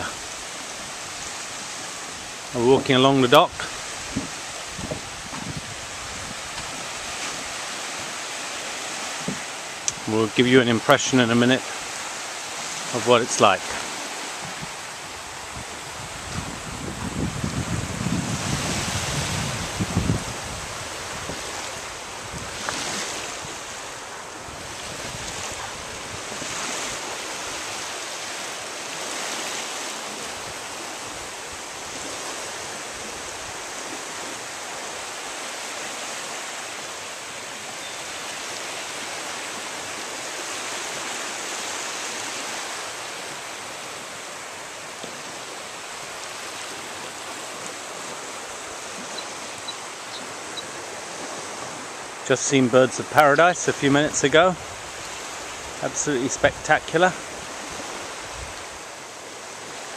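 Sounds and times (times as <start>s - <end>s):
waves washing onto shore: 0.0s - 59.9s.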